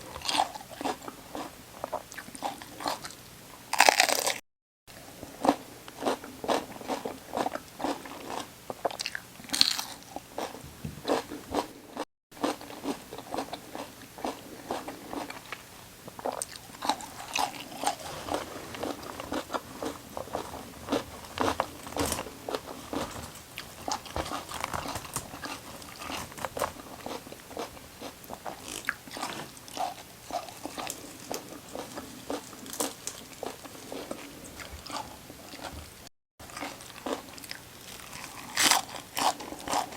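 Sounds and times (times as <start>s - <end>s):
crunching raw vegetables: 0.0s - 4.4s, 5.3s - 35.7s, 36.4s - 39.9s.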